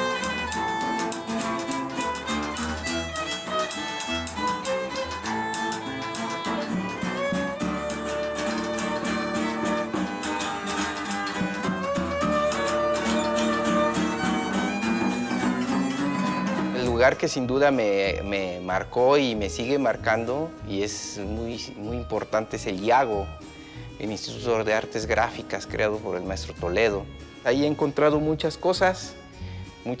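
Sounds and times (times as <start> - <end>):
plucked guitar strings: 0.0 - 30.0
violin melody: 0.0 - 30.0.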